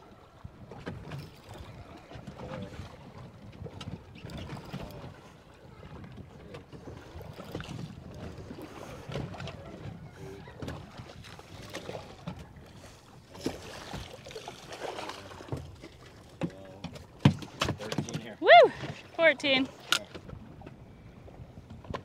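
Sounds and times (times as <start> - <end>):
water around a boat: 0.0 - 22.0
wind: 0.0 - 22.0
knocks and clicks on a boat: 0.4 - 22.0.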